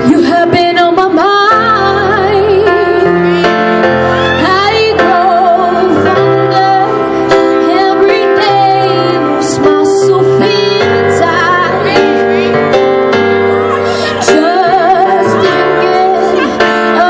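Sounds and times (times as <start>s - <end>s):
girl singing a slow ballad: 0.0s - 3.5s, 4.1s - 12.7s, 14.0s - 17.0s
instrumental accompaniment: 0.0s - 17.0s.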